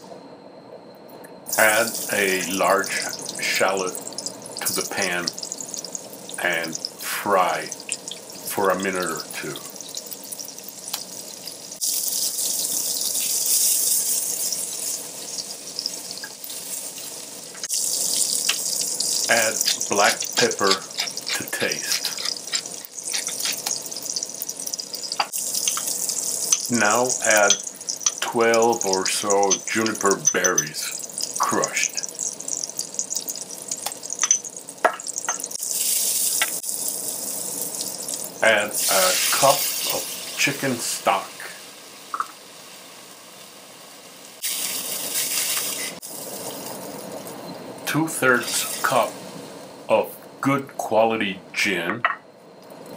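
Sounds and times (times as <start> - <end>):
shallots sizzling in hot oil: 1.5 - 47.4, 48.4 - 49.6.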